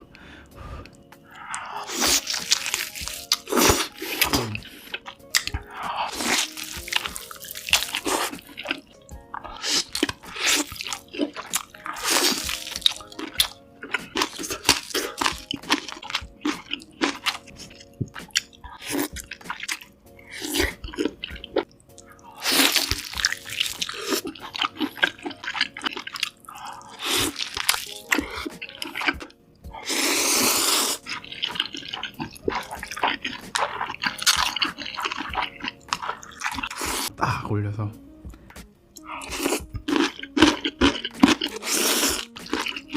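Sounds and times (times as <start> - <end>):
crunching and wet chewing: 0.8 - 37.1, 38.9 - 42.9.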